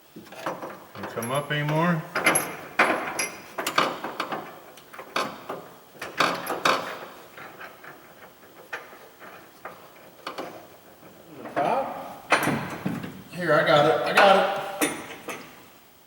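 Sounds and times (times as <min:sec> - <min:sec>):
metal clanks and rattles: 0:00.2 - 0:13.3, 0:14.1 - 0:15.6.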